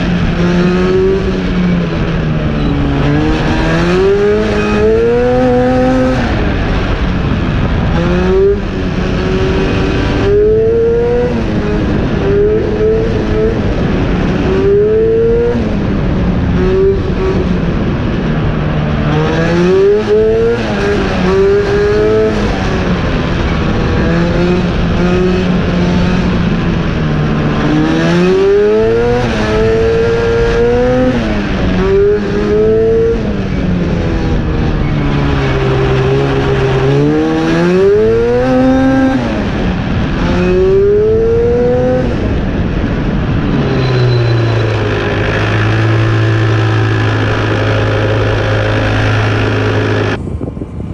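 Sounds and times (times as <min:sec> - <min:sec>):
race car engine revving: 0:00.0 - 0:50.2.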